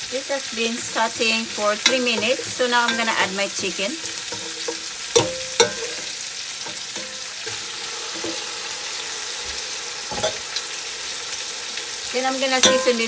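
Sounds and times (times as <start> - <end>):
chicken sizzling in a pot: 0.0 - 13.0.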